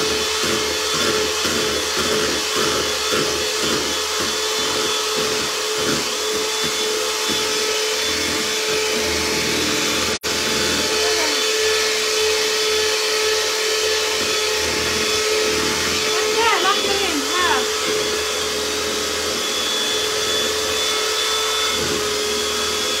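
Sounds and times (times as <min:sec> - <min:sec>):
electric mixer whining: 0:00.0 - 0:23.0.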